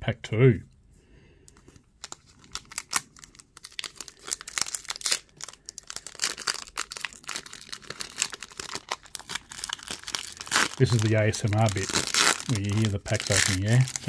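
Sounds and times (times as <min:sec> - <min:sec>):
foil wrapper tearing and crinkling: 0:02.0 - 0:14.0.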